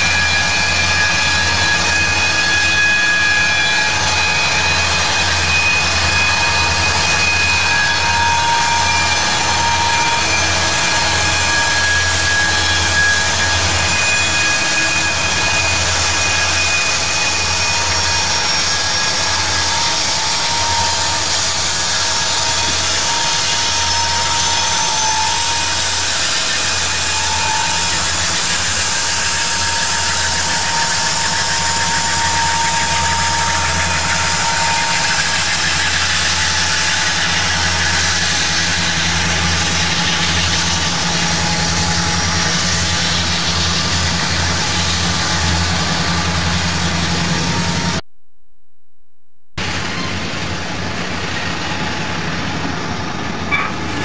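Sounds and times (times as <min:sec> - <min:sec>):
diesel locomotives passing under load: 0:00.0 - 0:48.0, 0:49.6 - 0:54.0
high engine whine: 0:00.0 - 0:54.0.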